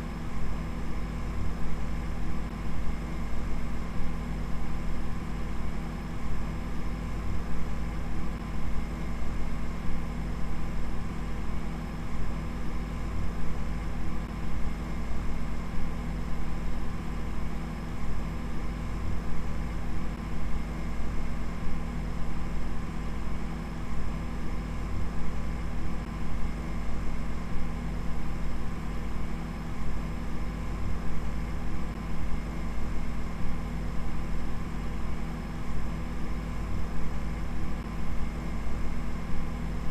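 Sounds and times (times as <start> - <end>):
steady low hum with held tones: 0.0 - 39.9.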